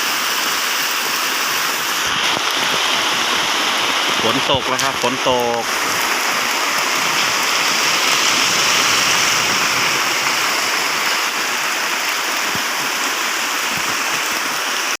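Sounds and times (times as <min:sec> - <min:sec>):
rain pouring down: 0:00.0 - 0:15.0.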